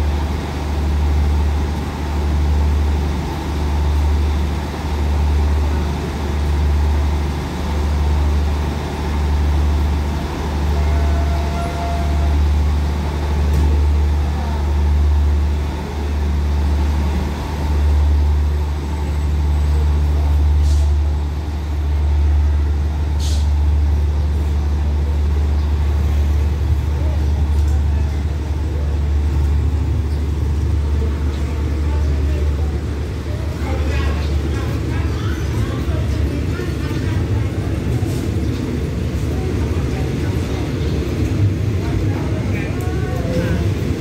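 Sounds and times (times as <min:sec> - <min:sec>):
diesel train engine rumble: 0:00.0 - 0:44.0.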